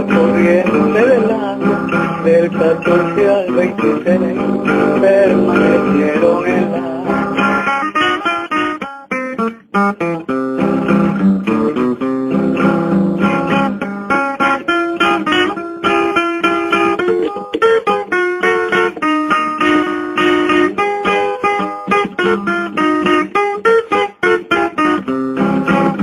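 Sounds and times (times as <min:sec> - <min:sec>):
plucked and strummed guitar: 0:00.0 - 0:26.0.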